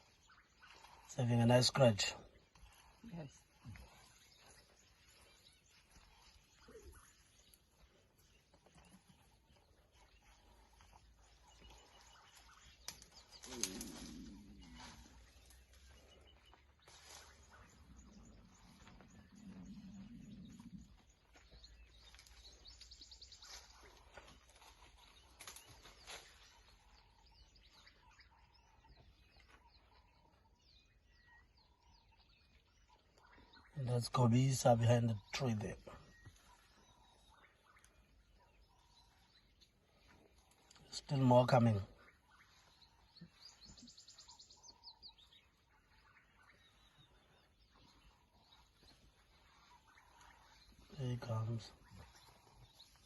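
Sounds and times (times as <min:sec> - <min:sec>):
faint bird chirps: 0:00.0 - 0:53.0.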